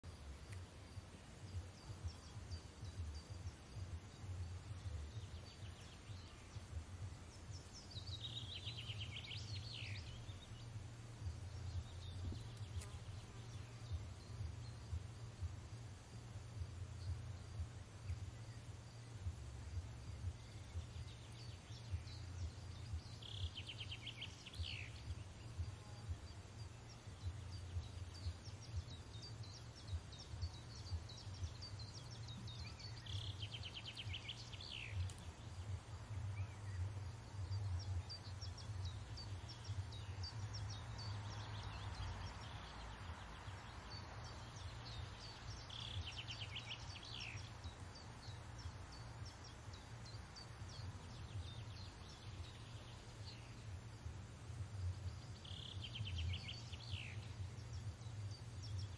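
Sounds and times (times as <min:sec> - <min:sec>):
low steady rumble: 0:00.0 - 0:58.9.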